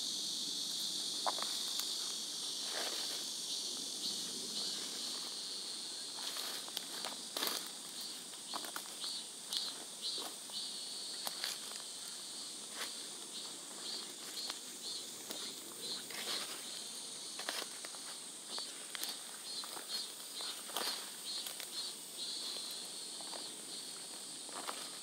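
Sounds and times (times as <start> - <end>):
insect buzzing: 0.0 - 25.0
insect chirping in pulses: 0.0 - 25.0.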